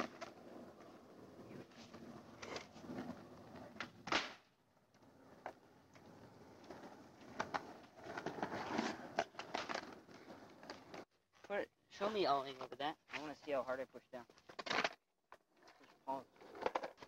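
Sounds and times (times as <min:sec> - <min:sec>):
skateboard wheels rolling on asphalt: 0:00.0 - 0:13.6, 0:14.2 - 0:17.0.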